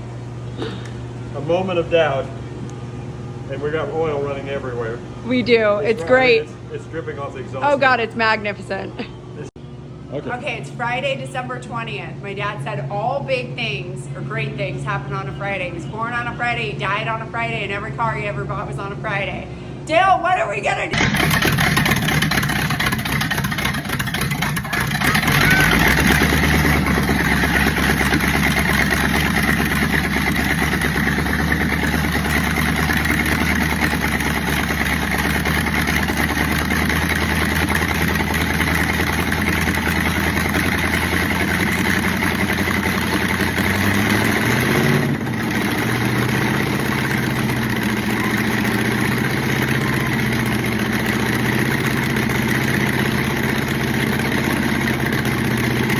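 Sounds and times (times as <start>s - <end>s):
car engine starting and idling: 10.2s - 55.9s.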